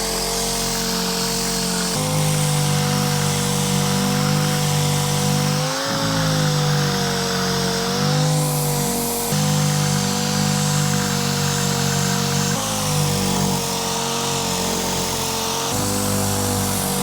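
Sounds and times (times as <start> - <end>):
power sander humming: 0.0 - 17.0.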